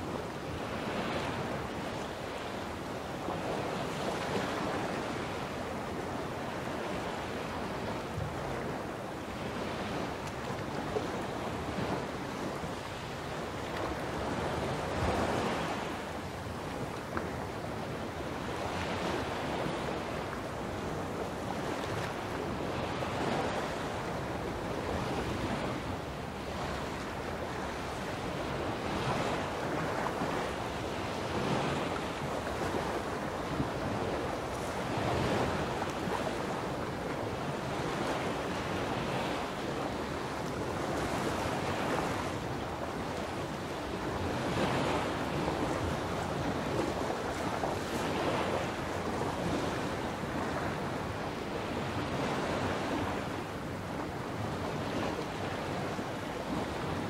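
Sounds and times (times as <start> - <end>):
sea waves washing onto beach: 0.0 - 57.0.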